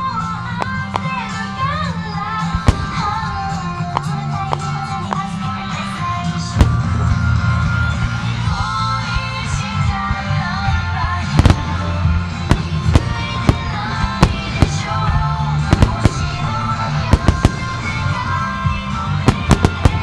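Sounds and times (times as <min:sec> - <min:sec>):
music with steady beat: 0:00.0 - 0:20.0
fireworks bangs: 0:00.5 - 0:08.5, 0:11.2 - 0:20.0.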